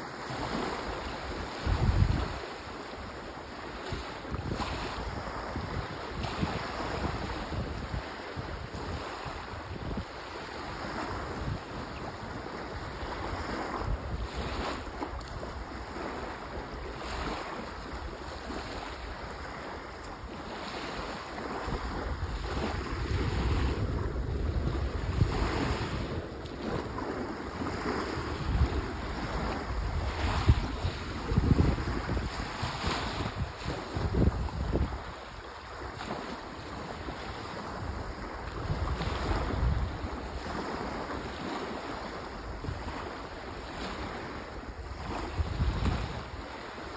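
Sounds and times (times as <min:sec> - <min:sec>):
small waves lapping on beach: 0:00.0 - 0:46.9
wind noise on microphone: 0:00.0 - 0:46.9.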